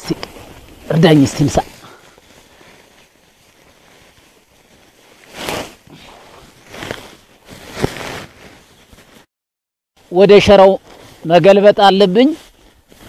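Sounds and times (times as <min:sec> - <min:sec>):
straw rustling onto plastic tarp: 0:00.0 - 0:09.3, 0:10.0 - 0:13.0.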